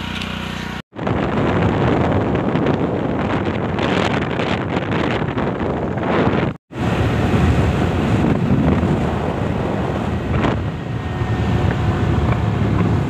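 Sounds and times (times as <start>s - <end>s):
motorcycle running: 0.0s - 13.0s
wind buffeting microphone: 0.9s - 13.0s.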